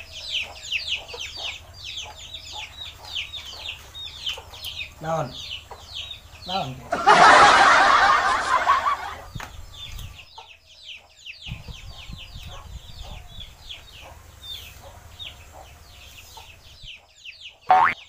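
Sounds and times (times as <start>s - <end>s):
chicks peeping: 0.0s - 6.9s, 8.8s - 18.0s.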